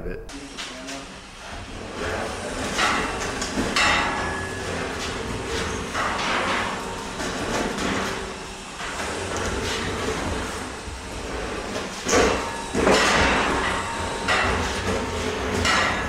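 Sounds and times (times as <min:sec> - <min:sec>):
metallic knocks and scraping: 0:01.9 - 0:16.0.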